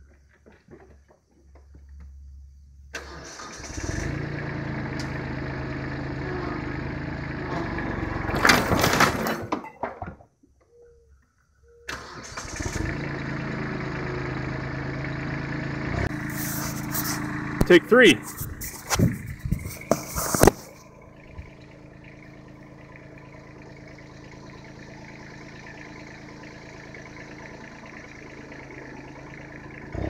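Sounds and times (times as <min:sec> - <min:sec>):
diesel tractor engine running: 0:00.0 - 0:09.5, 0:11.6 - 0:30.0.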